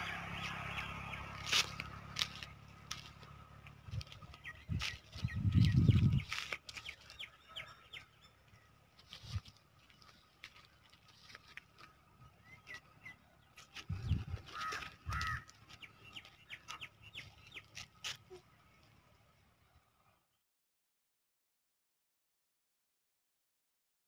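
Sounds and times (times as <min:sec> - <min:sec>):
birds chirping: 0:00.0 - 0:20.4.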